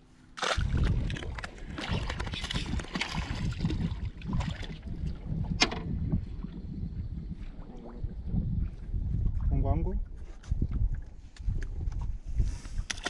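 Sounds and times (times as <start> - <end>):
water and boat noise: 0.0 - 13.0
wind rumbling on microphone: 0.6 - 13.0.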